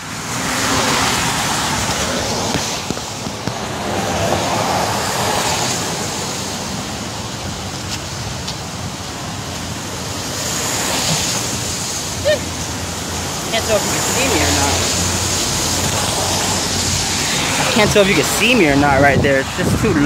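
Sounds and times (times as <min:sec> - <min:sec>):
road traffic: 0:00.0 - 0:20.0
wind: 0:00.0 - 0:20.0.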